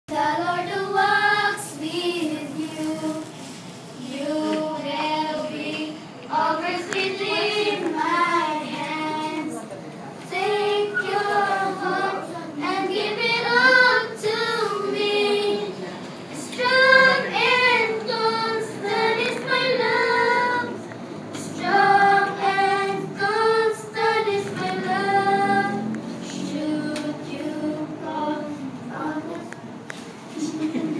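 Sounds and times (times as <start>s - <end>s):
high voices singing: 0.1s - 9.6s, 10.2s - 29.6s.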